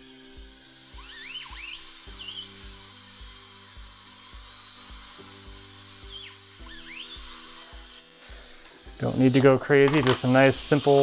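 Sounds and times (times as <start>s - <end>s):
background music with steady beat: 0.0s - 11.0s
dental drill high whine: 0.0s - 11.0s.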